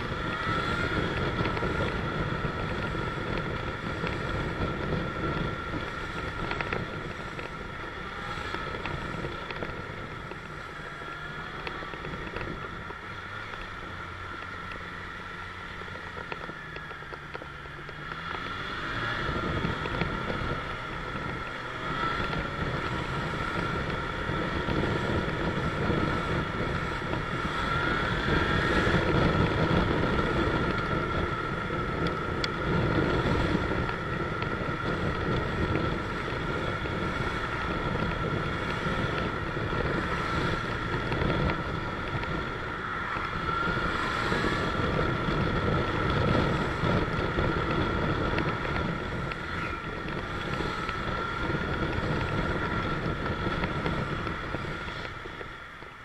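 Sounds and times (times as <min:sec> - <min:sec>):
motorcycle engine running: 0:00.0 - 0:56.0
steady high whine: 0:00.0 - 0:56.0
wind noise on microphone: 0:00.0 - 0:56.0.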